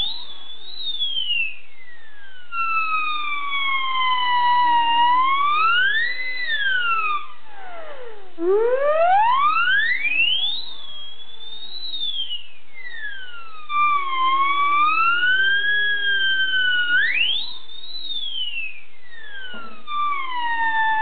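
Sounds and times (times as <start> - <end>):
siren whistle wailing: 0.0 - 21.0.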